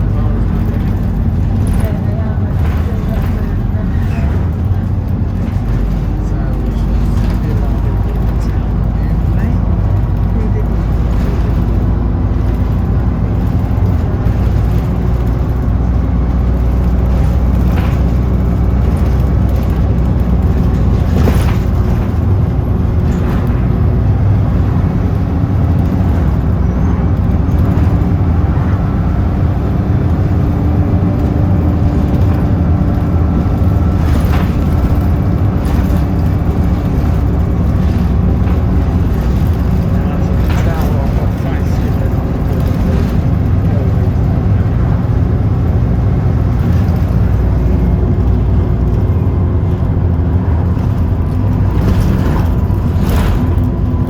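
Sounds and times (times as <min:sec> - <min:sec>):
bus body rattles: 0:00.0 - 0:54.0
bus engine and road drone: 0:00.0 - 0:54.0.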